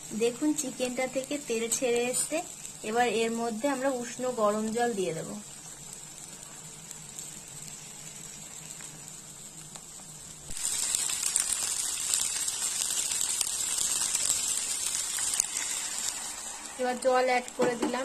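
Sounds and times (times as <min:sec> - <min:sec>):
loud hissing sizzle in pan: 0:00.0 - 0:18.0.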